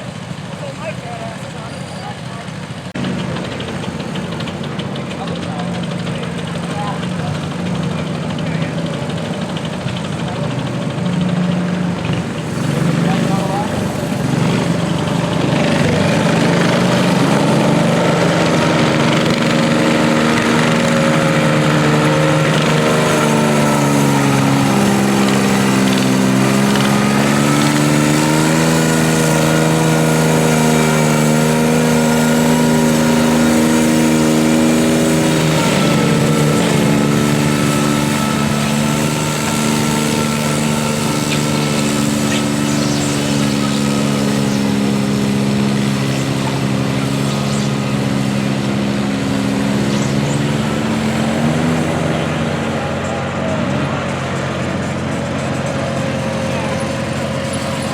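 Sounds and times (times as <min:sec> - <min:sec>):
garden tractor engine running: 0:00.0 - 0:57.9.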